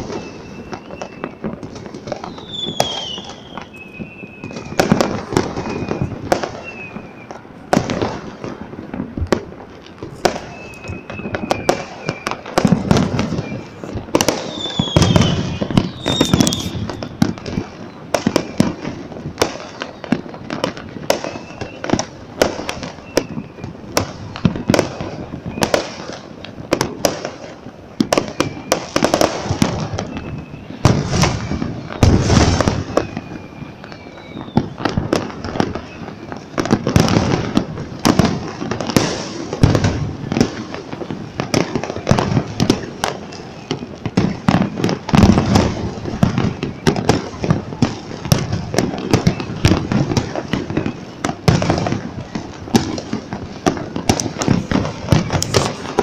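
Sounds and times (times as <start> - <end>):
fireworks bangs and cracks: 0.0 - 56.0
fireworks whistles: 0.0 - 56.0.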